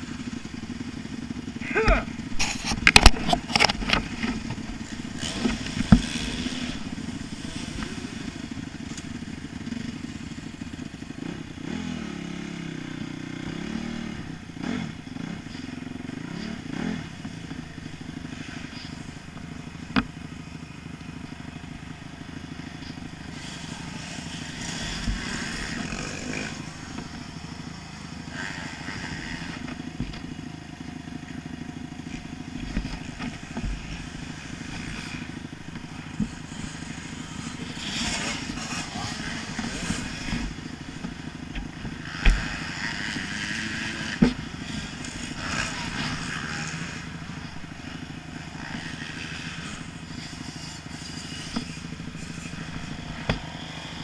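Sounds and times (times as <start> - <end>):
motocross bike engine: 0.0 - 54.0.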